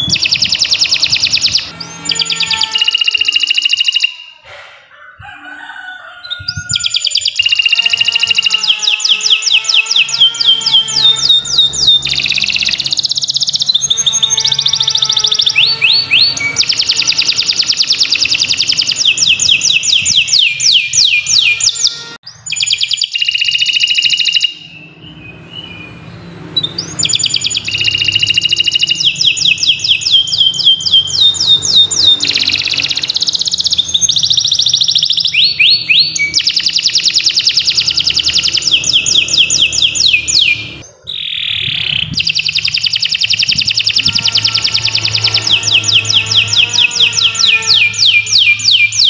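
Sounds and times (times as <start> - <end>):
canary singing rapid trills: 0.0 - 4.5, 6.3 - 49.0.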